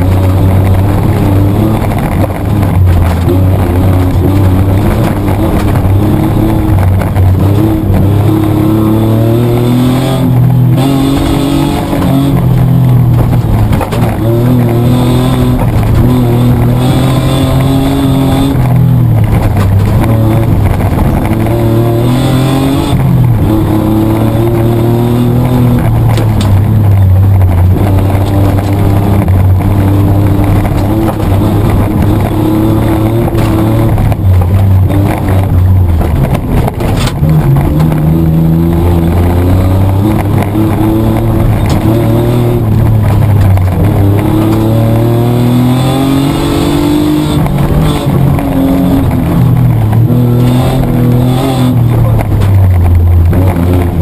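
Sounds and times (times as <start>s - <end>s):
car engine revving in cabin: 0.0s - 54.0s.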